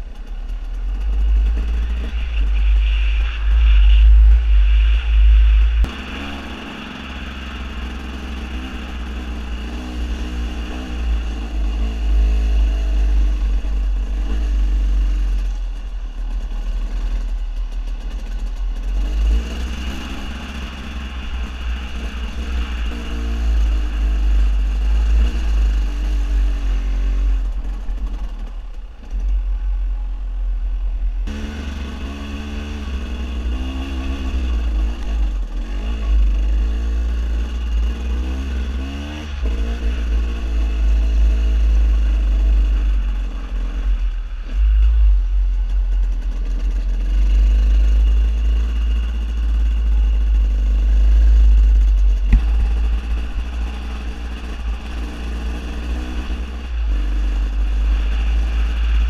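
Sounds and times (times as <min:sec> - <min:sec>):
two-stroke motorcycle engine: 0:00.0 - 0:59.0
wind rumble on microphone: 0:00.0 - 0:59.0.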